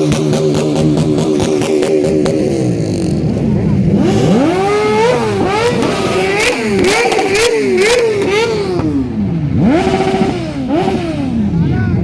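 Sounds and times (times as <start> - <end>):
sharp exhaust cracks: 0.0 - 11.6
motorcycle engine revving: 0.0 - 12.0.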